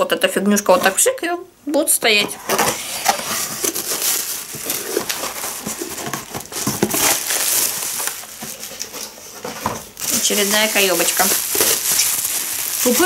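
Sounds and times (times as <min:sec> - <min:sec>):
packaging crinkling: 0:02.5 - 0:13.0.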